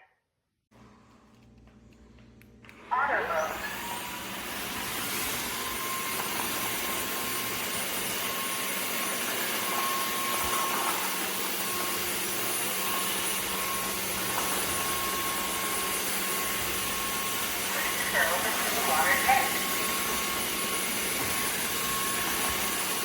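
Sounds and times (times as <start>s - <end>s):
vacuum cleaner running: 0.8s - 23.0s.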